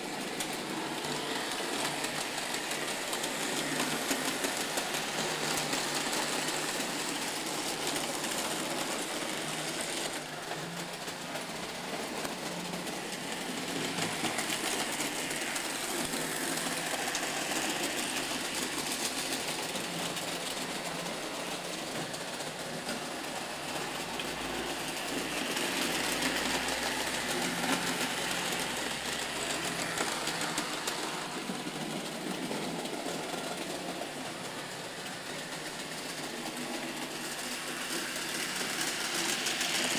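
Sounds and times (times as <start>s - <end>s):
model train whirring rattle: 0.0s - 39.9s.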